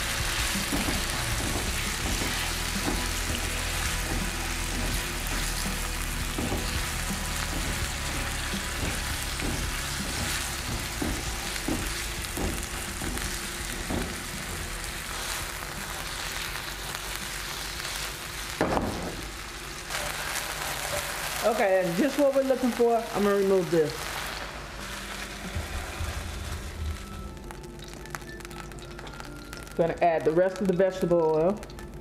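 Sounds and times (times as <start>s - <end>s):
spatula stirring: 0.0s - 18.2s, 19.9s - 29.9s
chicken sizzling in frying pan: 0.0s - 32.0s.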